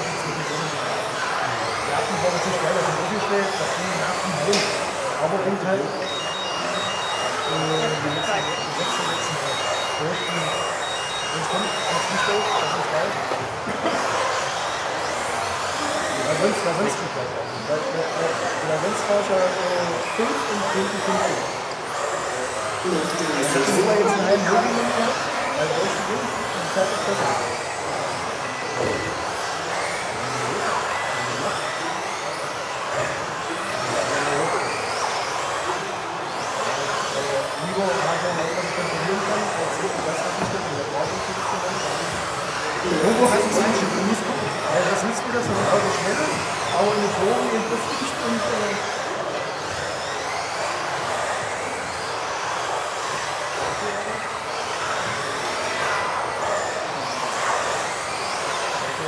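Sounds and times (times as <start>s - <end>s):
electric toy car motors whining: 0.0s - 59.0s
steady background noise: 0.0s - 59.0s.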